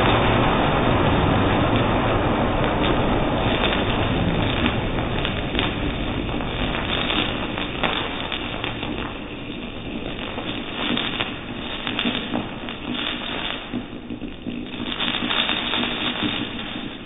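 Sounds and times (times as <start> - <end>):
firework hissing and crackling: 0.0 - 17.0.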